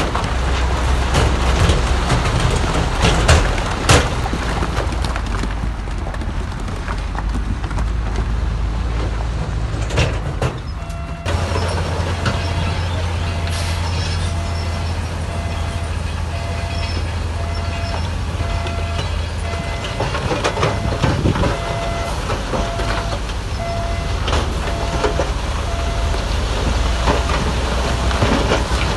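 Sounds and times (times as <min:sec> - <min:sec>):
diesel machinery engine drone: 0:00.0 - 0:28.9.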